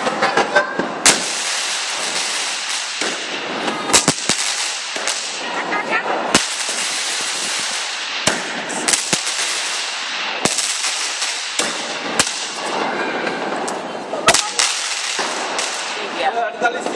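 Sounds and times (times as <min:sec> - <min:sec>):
firecracker bangs: 0:00.0 - 0:16.9
fireworks hissing crackle: 0:00.0 - 0:16.9.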